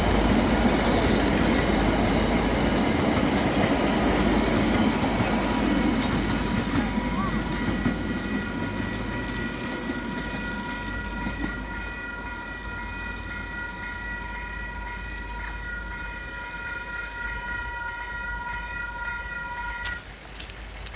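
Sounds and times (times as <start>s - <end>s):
train rumble: 0.0s - 20.9s.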